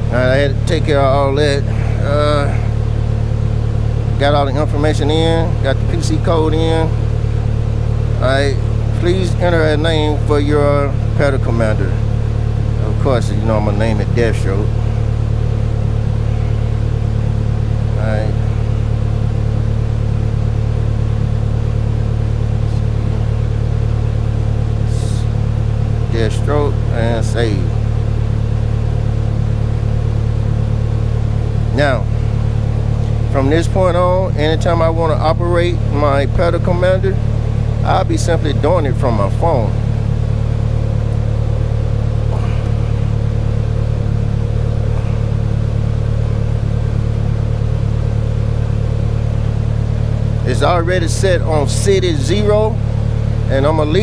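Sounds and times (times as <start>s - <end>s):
engine idling with low hum: 0.0s - 54.0s.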